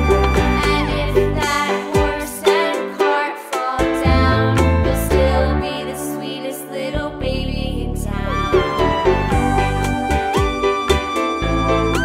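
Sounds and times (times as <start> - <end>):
children's background music: 0.0 - 12.0.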